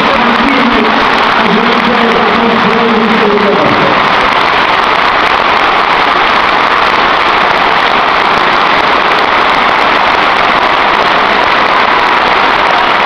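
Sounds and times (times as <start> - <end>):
stadium crowd roar: 0.0 - 13.0.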